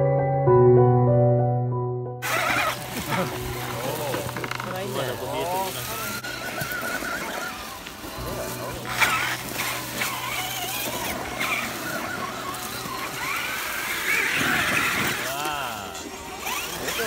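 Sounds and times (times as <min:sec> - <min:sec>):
small electric motors whining: 0:02.2 - 0:17.0
people's voices: 0:02.3 - 0:17.0.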